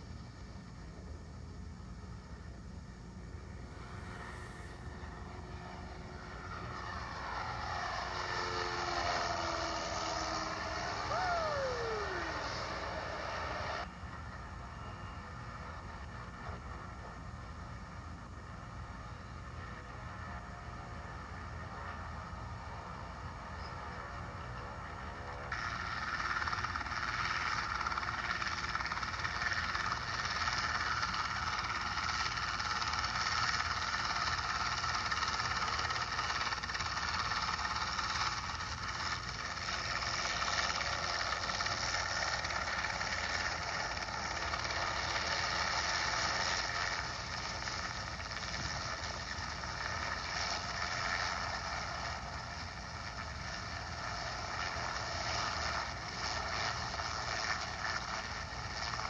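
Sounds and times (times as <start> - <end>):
light aircraft engine drone in cabin: 0.0 - 59.0.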